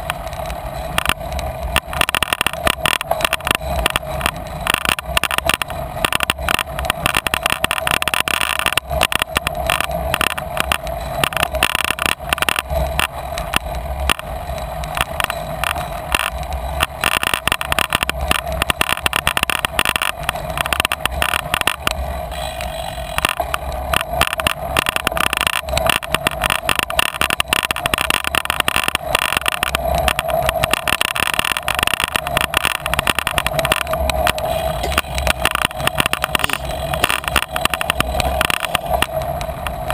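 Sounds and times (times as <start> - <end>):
bicycle rattling over rough ground: 0.0 - 39.9
tyre noise: 0.0 - 39.9.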